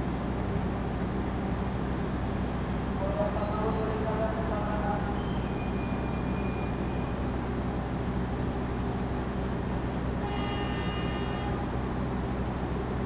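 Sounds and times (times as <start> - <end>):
train diesel engines idling: 0.0 - 13.0.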